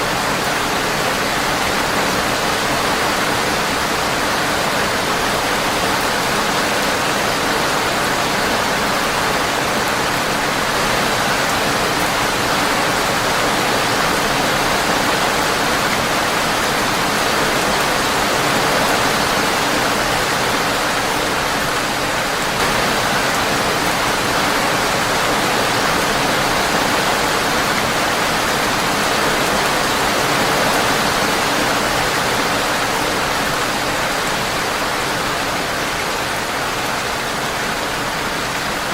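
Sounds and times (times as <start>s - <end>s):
rain on a windowpane: 0.0s - 38.9s.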